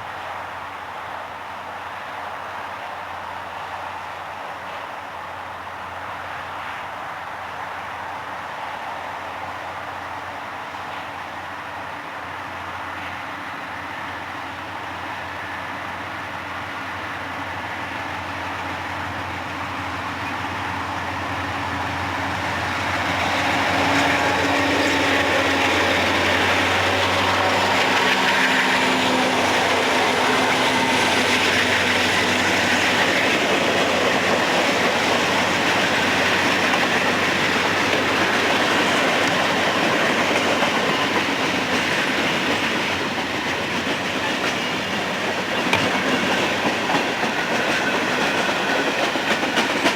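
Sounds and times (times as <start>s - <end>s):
train cars rolling on rails: 0.0s - 49.9s
train engine hum: 0.0s - 49.9s.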